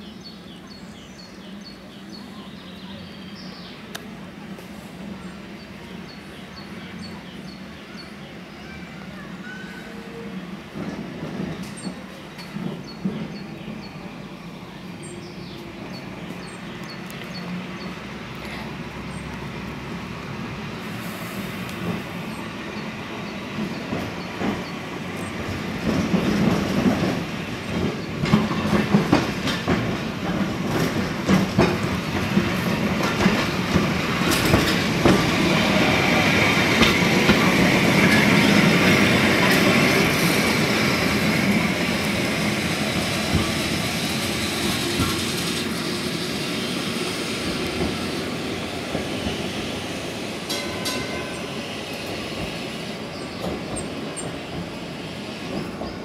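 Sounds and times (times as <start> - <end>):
tram wheels rumbling on track: 0.0 - 56.0.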